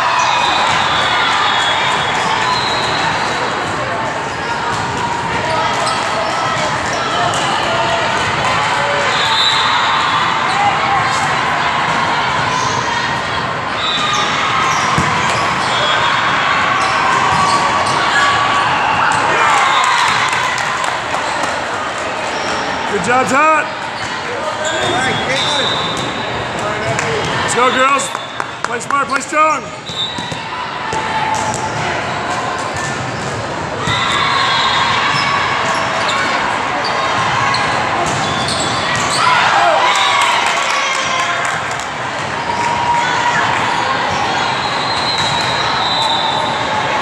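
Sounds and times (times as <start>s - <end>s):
crowd voices and shouts: 0.0s - 47.0s.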